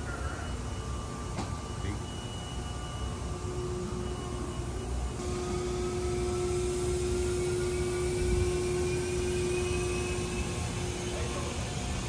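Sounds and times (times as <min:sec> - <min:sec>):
machinery rumbling hum: 0:00.0 - 0:12.0
mechanical whine: 0:00.0 - 0:12.0
steady tone: 0:00.0 - 0:12.0.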